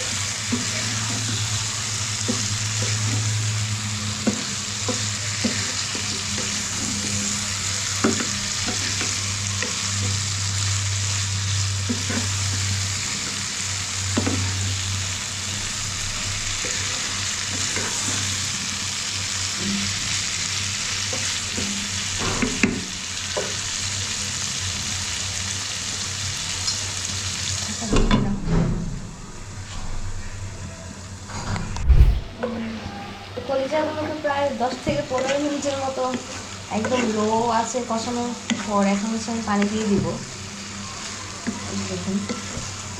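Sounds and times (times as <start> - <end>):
liver sizzling in a pan: 0.0 - 27.8, 34.2 - 42.9.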